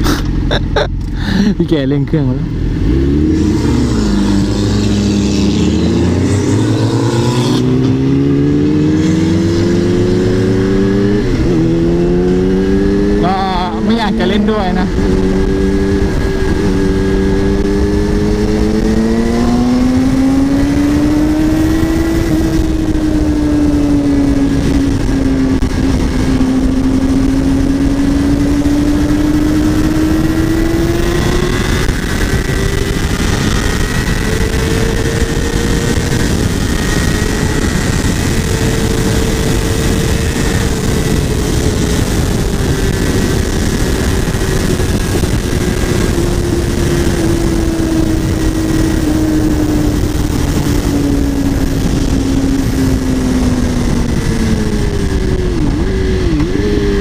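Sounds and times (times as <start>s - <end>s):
motorcycle engine accelerating: 0.0s - 57.0s
wind rush: 2.4s - 57.0s.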